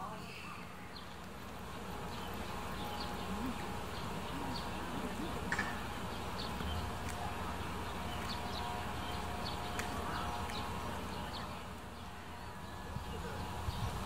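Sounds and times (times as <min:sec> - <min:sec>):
faint distant voices: 0:00.0 - 0:14.0
steady hum: 0:00.0 - 0:14.0.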